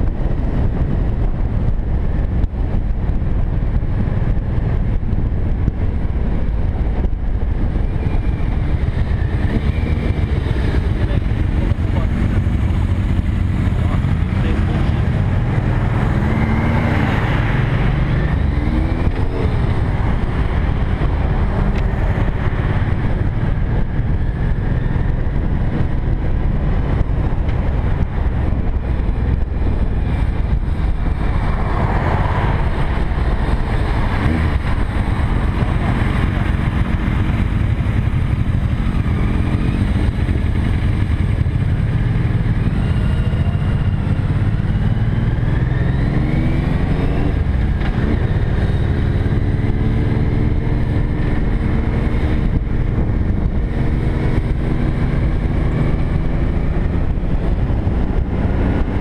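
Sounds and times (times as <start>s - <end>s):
motorcycle engine rumble: 0.0s - 59.0s
wind on microphone: 0.0s - 59.0s.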